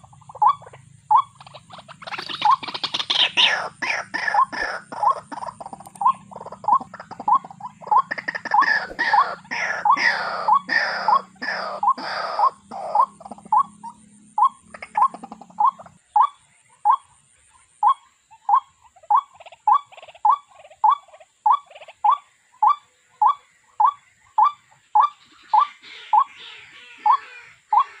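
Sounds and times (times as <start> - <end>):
rail bird calling: 0.0 - 28.0.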